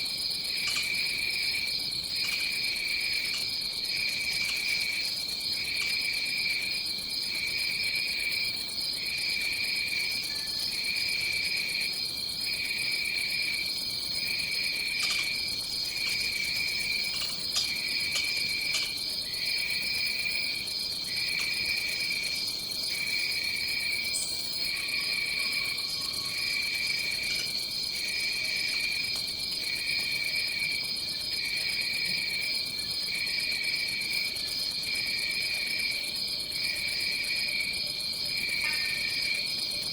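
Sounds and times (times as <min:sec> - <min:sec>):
high-pitched insect trill: 0:00.1 - 0:39.9.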